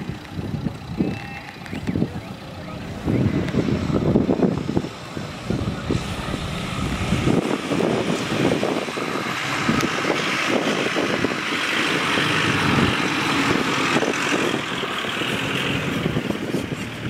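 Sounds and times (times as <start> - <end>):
pickup truck engine running: 0.0 - 17.0.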